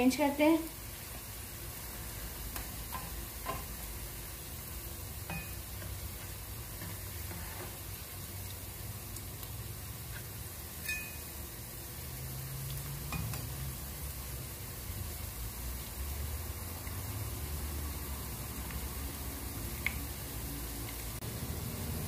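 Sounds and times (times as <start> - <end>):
potato patties sizzling in oil: 0.0 - 22.0.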